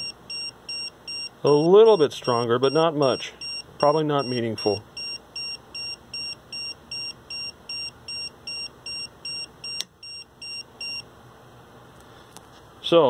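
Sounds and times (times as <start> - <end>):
meter alarm beeping: 0.0 - 11.0.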